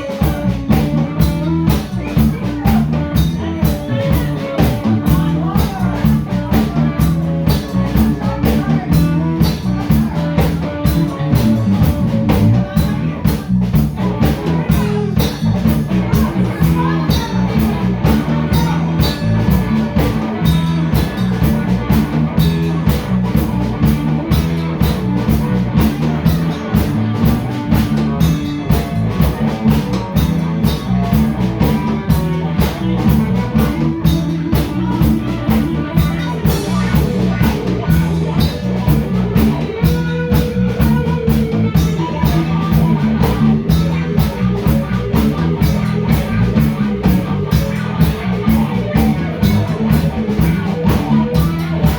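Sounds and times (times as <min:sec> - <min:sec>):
drum kit beat: 0:00.0 - 0:51.9
rock band playing: 0:00.0 - 0:51.9.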